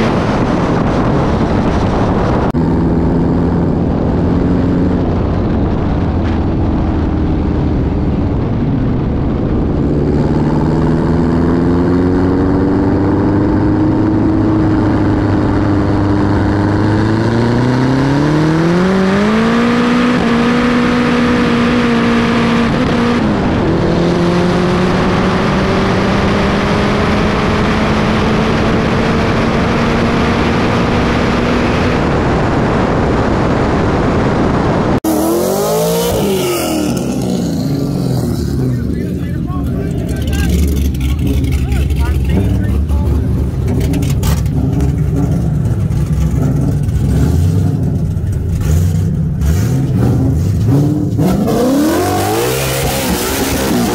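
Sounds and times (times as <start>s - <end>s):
car engine at full throttle: 0.0s - 53.9s
heavy wind rush: 0.0s - 53.9s
engine revving up and down: 9.4s - 53.9s.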